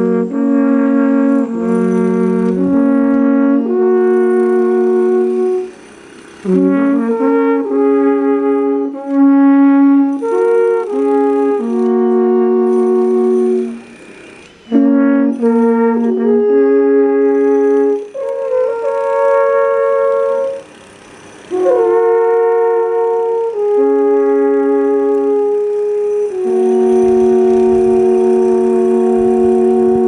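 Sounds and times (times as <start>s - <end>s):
alphorns playing slow melody: 0.0s - 30.0s.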